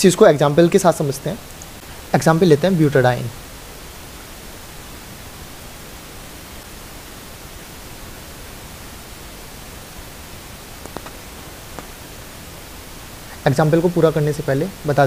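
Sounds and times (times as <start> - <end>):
recording background hiss: 0.0 - 15.0.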